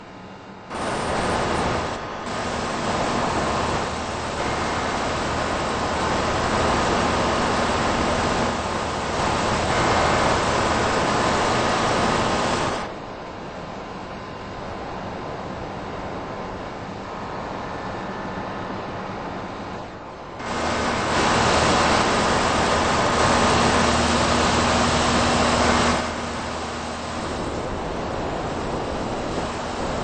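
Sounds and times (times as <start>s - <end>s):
air conditioner fan running: 0.0s - 30.0s.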